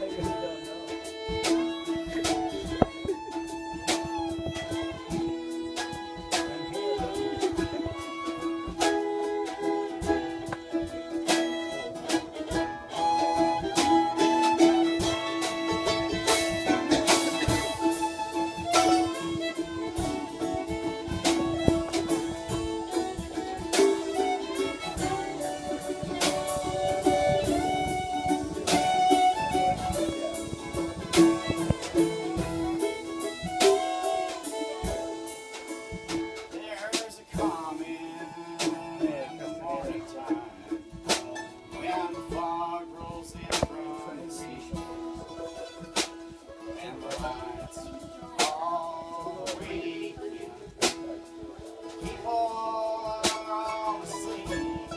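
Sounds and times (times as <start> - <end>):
drum kit and cymbal hits: 0.0 - 54.9
fiddle melody: 0.0 - 54.9
mandolin: 0.0 - 54.9
strummed acoustic guitar: 0.0 - 54.9.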